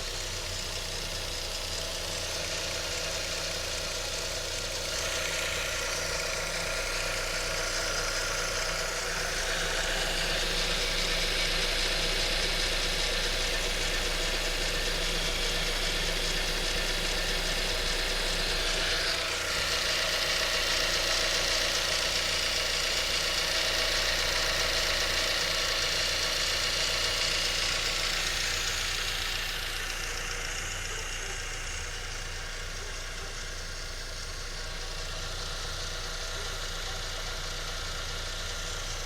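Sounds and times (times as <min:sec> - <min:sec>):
car engine idling: 0:00.0 - 0:39.0
oil pump ticking: 0:00.0 - 0:39.0.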